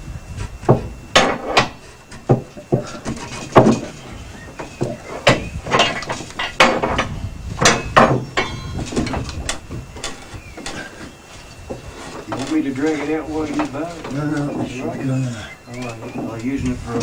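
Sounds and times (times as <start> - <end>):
wood and metal knocks: 0.6 - 17.0.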